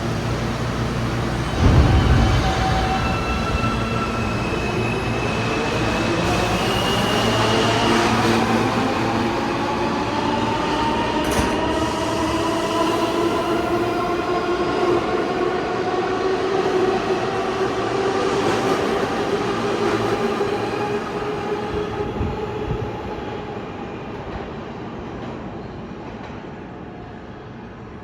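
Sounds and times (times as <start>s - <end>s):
train rolling rumble: 0.0s - 26.9s
subway train motors whining: 0.0s - 28.0s.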